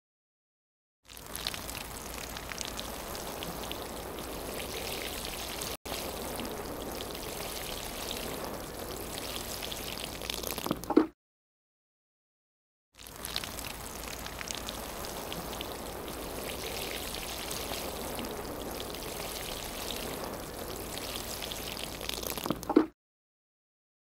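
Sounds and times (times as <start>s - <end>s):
rain pattering: 1.1s - 10.9s, 13.0s - 22.7s.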